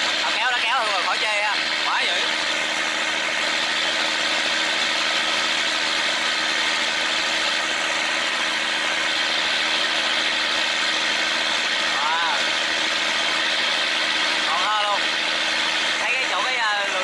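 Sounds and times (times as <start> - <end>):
boat diesel engine running: 0.0 - 17.0.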